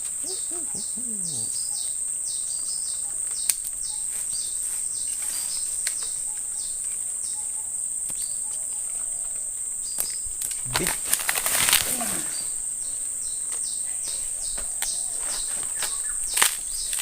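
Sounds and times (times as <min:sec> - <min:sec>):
insect chirp: 0:00.0 - 0:17.0.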